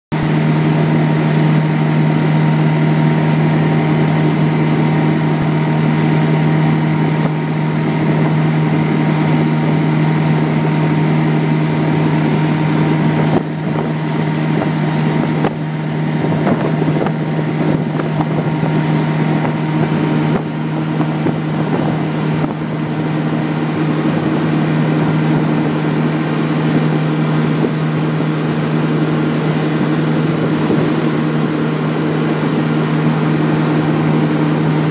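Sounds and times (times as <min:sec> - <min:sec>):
outboard motor at full throttle: 0:00.1 - 0:34.9
wind: 0:00.1 - 0:34.9
rushing water: 0:00.2 - 0:34.9.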